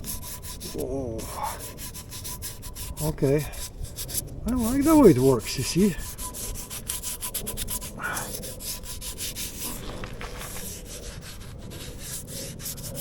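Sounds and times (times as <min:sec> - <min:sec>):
rubbing strokes on metal: 0:00.0 - 0:13.0.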